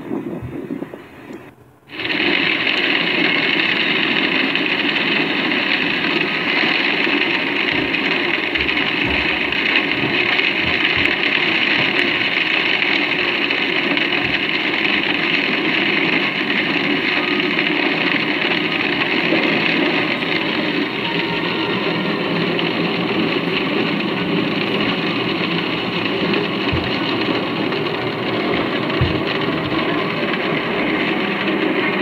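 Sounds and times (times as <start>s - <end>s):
storm wind rushing: 0.0s - 32.0s.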